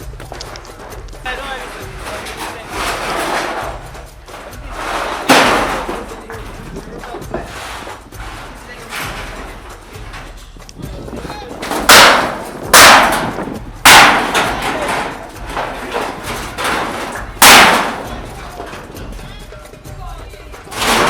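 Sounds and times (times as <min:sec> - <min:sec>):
loud sudden bangs: 0:01.3 - 0:19.6.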